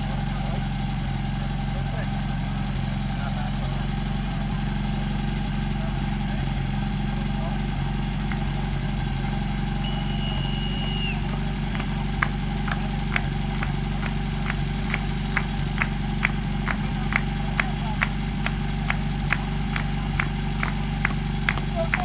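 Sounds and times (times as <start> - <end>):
pump engine idling: 0.0 - 22.0.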